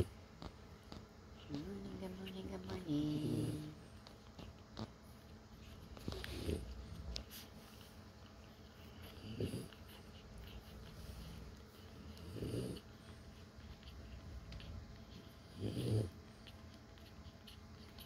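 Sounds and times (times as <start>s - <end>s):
dog breathing heavily: 0.0s - 18.0s
puppies suckling clicks: 0.0s - 18.0s.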